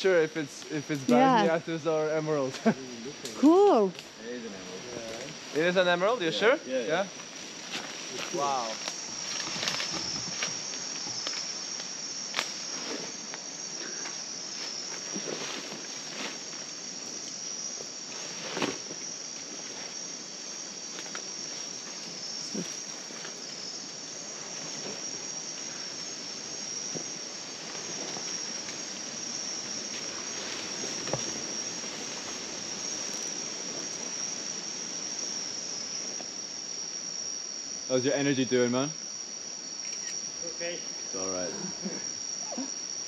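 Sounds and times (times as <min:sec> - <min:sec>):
night insects chorus: 0:00.0 - 0:43.0.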